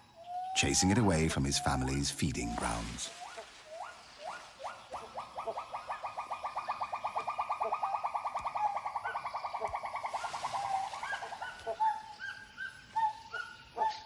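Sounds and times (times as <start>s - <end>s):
forest bird calls: 0.0s - 14.0s.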